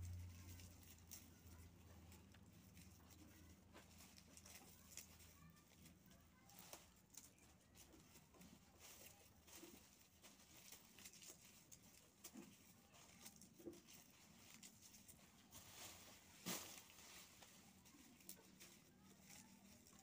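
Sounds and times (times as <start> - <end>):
dry shallot skins rustling: 0.0 - 20.0.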